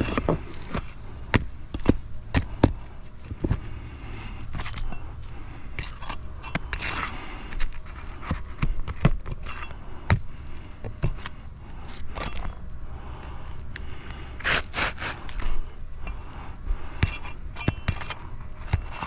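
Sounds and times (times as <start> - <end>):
tool scraping and clicking on shingles: 0.0 - 12.6, 13.2 - 16.2, 16.9 - 19.0.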